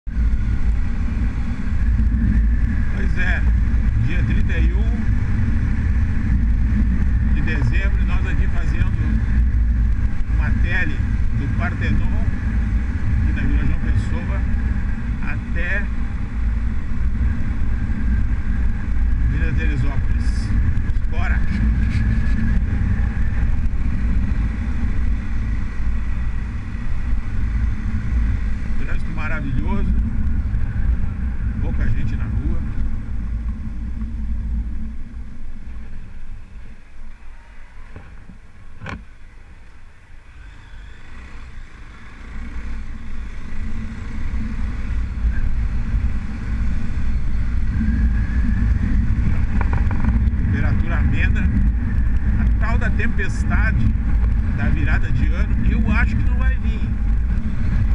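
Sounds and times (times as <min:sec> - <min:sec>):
motorcycle engine drone: 0:00.0 - 0:57.9
wind rumble on microphone: 0:00.0 - 0:57.9.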